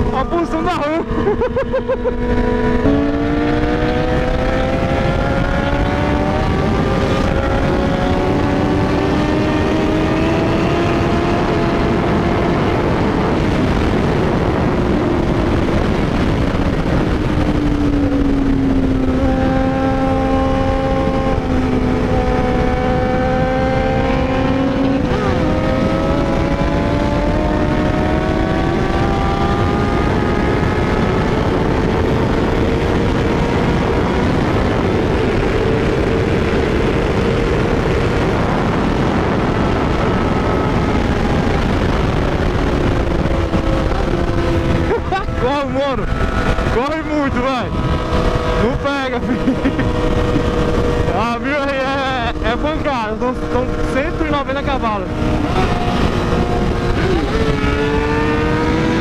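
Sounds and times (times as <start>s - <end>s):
motorcycle engine cruising: 0.0s - 59.0s
wind rush: 0.0s - 59.0s.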